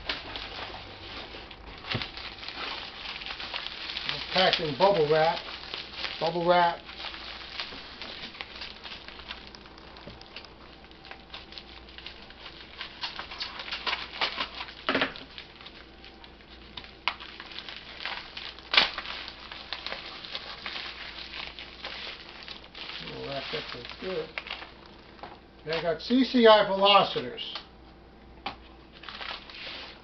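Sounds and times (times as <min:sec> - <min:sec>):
bubble wrap sharp snaps: 0:00.0 - 0:25.9, 0:28.4 - 0:30.0
bubble wrap crinkling: 0:00.0 - 0:27.7, 0:28.7 - 0:30.0.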